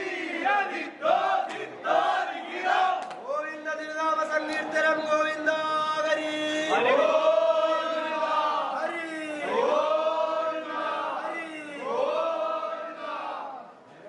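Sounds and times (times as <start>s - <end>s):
men chanting: 0.0s - 3.0s, 4.4s - 13.7s.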